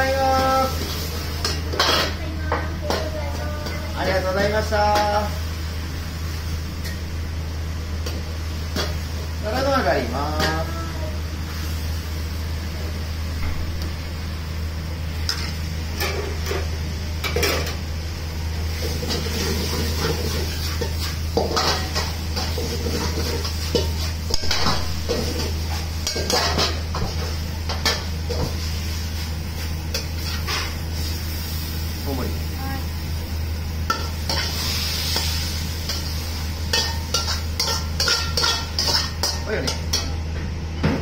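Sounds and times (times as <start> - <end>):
gas burner hum and hiss: 0.0 - 41.0.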